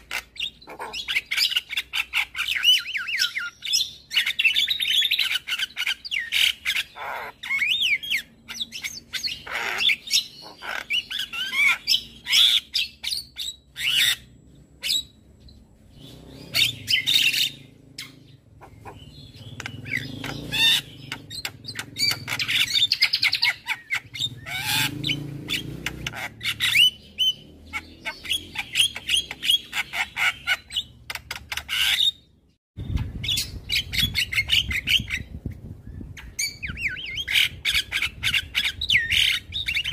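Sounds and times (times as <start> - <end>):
bird singing chirps and whistles: 0.0 - 18.4, 19.0 - 39.9.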